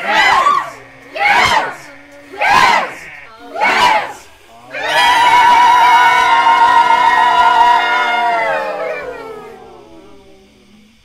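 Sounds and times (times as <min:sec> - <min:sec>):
voices singing long notes: 0:00.0 - 0:11.0.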